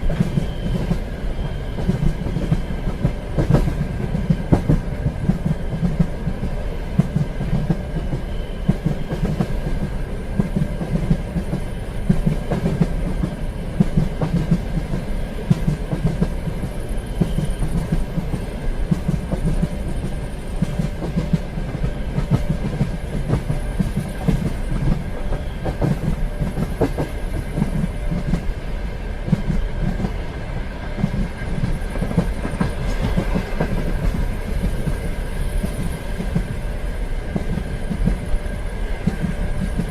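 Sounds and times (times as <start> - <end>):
clickety-clack of wheels: 0.0 - 39.9
train rumbling on rails: 0.0 - 39.9.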